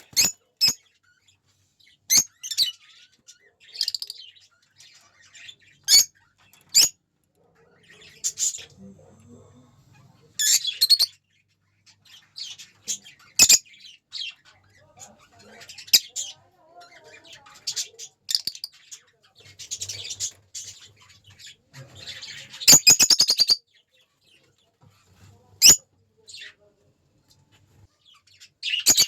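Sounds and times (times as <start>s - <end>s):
lovebirds chirping: 0.0s - 7.1s, 7.8s - 26.7s, 27.3s - 29.0s.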